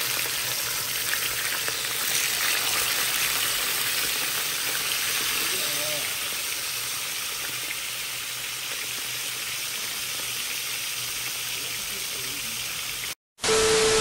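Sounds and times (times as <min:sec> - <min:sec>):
fish sizzling in hot oil: 0:00.0 - 0:13.2.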